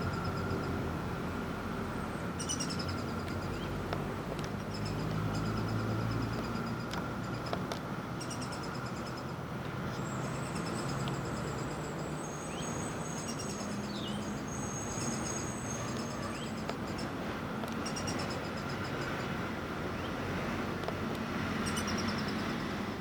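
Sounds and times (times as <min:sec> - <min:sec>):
small birds trilling and chirping: 0:01.8 - 0:20.2, 0:21.4 - 0:22.8.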